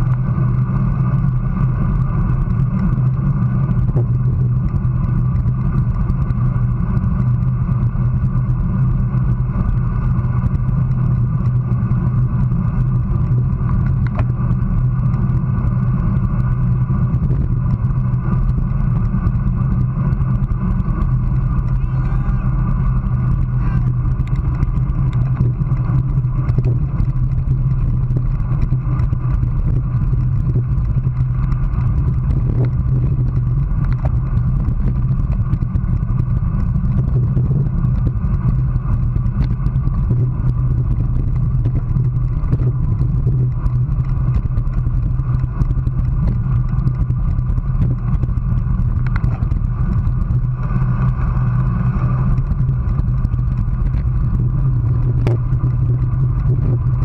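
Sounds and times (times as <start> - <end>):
bike rattling on asphalt: 0.0 - 57.0
wind buffeting camera: 0.0 - 57.0.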